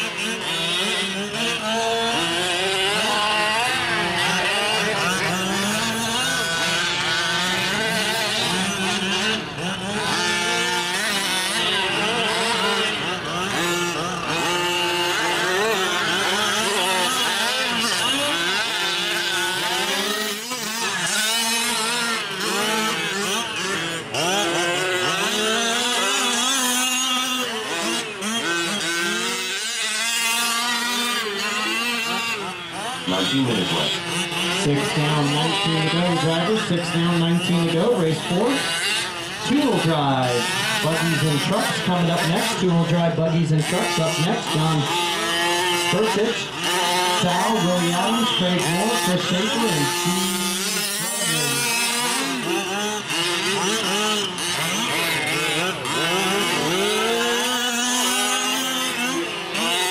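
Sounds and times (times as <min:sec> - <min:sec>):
small two-stroke engines buzzing: 0:00.0 - 0:59.9.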